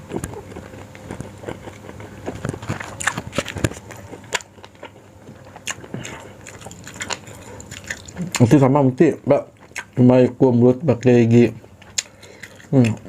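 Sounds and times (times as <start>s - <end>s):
person chewing food: 0.0s - 10.0s, 11.0s - 13.0s.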